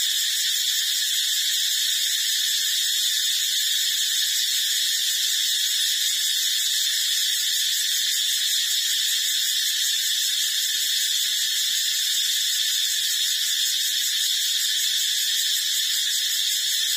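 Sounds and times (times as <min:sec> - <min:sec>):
high-pitched hiss with whining tones: 0:00.0 - 0:16.9.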